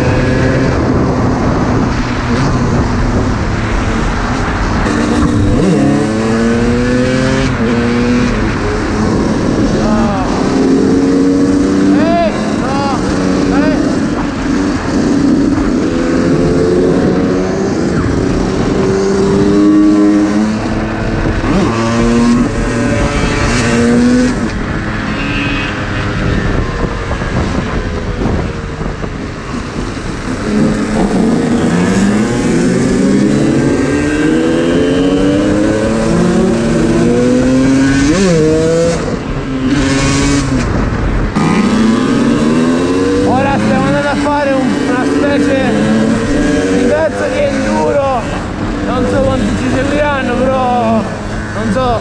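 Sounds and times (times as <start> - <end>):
moped engine revving: 2.3 - 28.9, 29.6 - 52.0.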